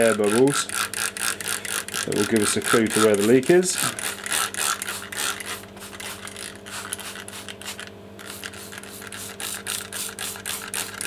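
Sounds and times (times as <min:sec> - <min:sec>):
steady low hum: 0:00.0 - 0:11.0
spray bottle hissing sprays: 0:01.2 - 0:11.0.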